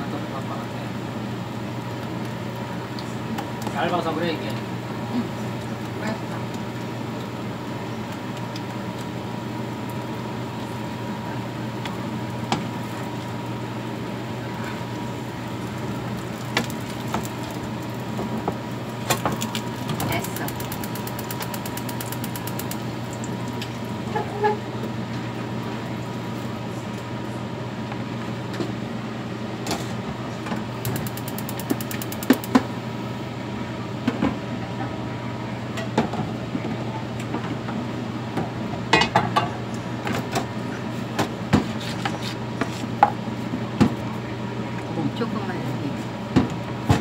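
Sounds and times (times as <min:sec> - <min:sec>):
gas stove low hum: 0:00.0 - 0:47.0.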